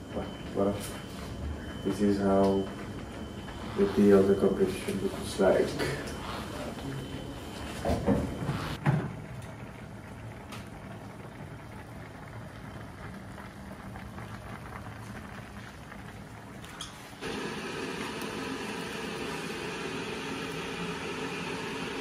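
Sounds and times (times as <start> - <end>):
food simmering and bubbling in pans: 0.0 - 22.0.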